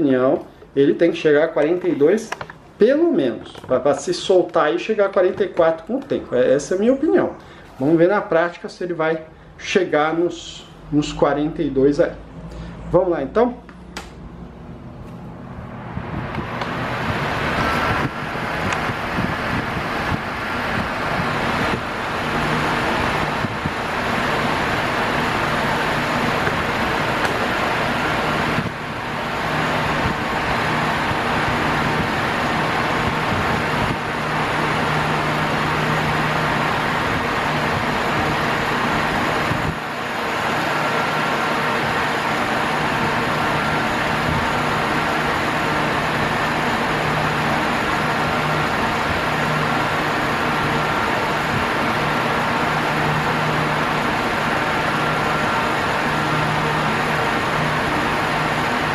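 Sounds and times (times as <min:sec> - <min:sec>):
electric fan air rush: 0:00.0 - 0:58.9
low motor hum: 0:10.7 - 0:58.9.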